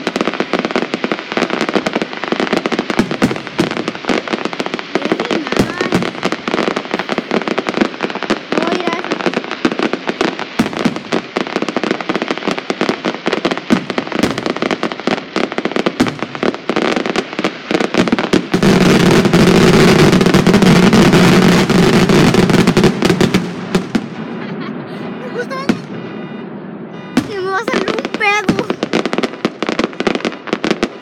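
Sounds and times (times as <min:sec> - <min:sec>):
firework bangs and crackles: 0:00.0 - 0:31.0.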